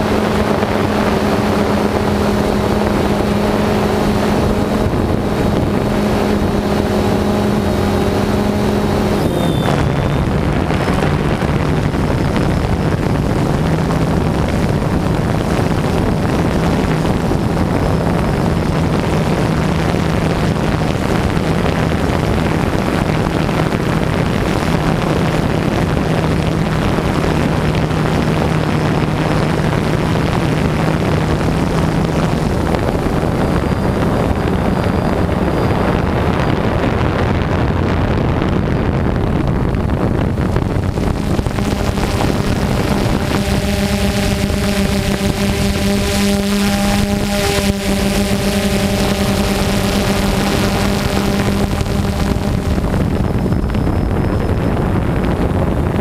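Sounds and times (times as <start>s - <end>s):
drone motors buzzing: 0.0s - 38.6s, 39.2s - 56.0s
wind noise on microphone: 0.0s - 56.0s.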